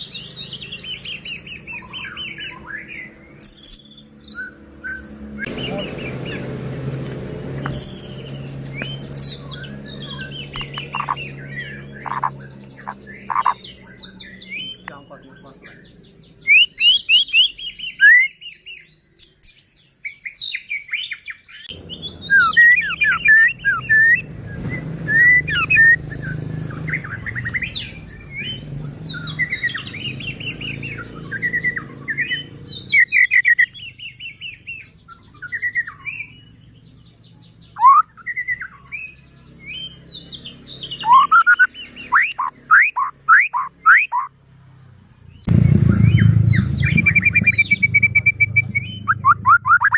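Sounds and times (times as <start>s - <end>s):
songbird whistling song: 0.0s - 44.4s, 45.3s - 49.9s.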